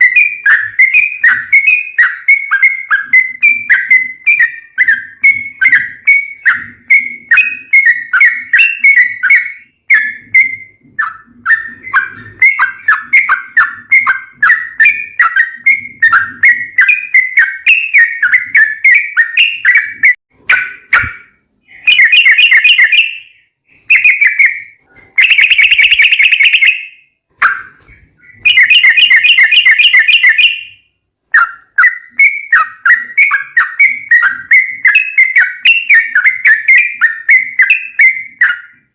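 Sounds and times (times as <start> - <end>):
bulbul chirping song: 0.0 - 38.9.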